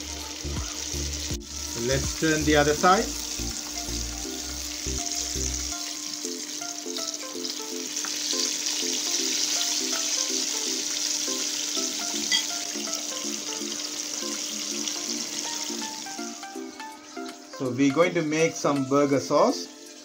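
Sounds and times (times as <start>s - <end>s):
chicken sizzling in hot oil: 0.0s - 20.0s
light background music: 0.0s - 20.0s.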